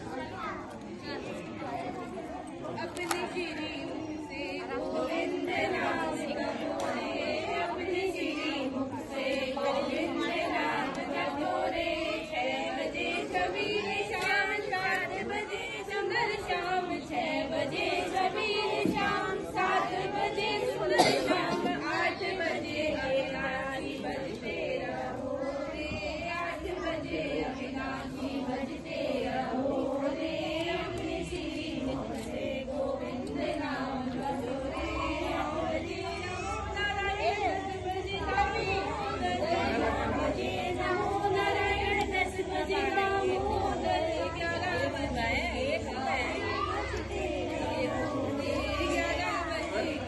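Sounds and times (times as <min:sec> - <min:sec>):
overlapping chatter: 0:00.0 - 0:50.0
women singing together: 0:01.2 - 0:50.0.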